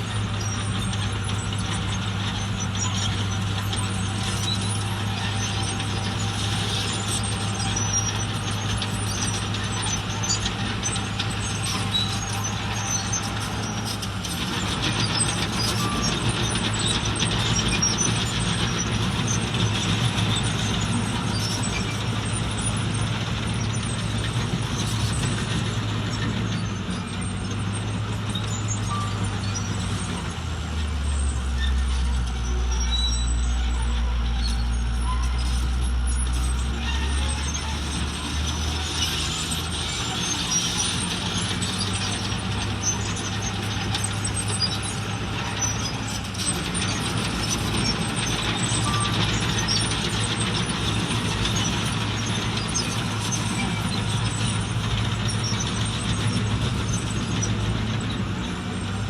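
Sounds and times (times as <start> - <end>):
diesel construction machinery running: 0.0 - 59.0.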